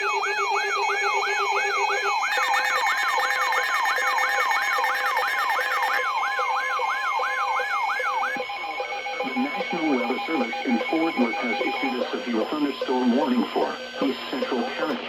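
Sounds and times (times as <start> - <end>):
electronic siren alarm: 0.0 - 15.0.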